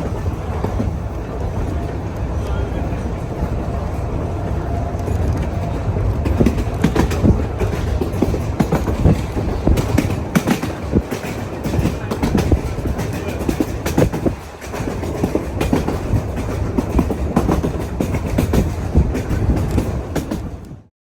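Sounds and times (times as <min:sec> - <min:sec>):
train carriage rattling: 0:00.0 - 0:20.9
train wheels clacking over rail joints: 0:00.0 - 0:20.9.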